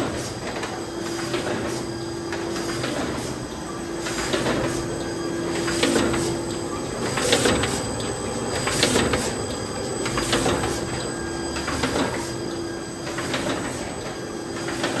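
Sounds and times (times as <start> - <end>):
machine humming: 0.4 - 15.0.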